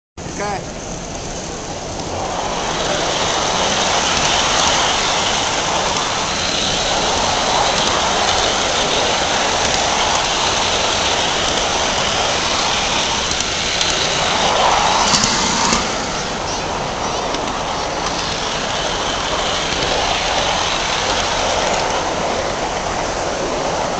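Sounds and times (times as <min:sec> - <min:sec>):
model train wheels rattling on rails: 0:00.4 - 0:23.9.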